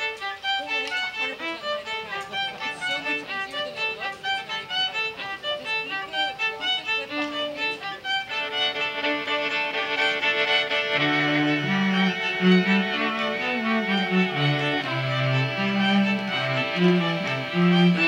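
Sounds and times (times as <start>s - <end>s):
lower string line: 0.0s - 18.0s
violin playing lively melody: 0.0s - 18.0s.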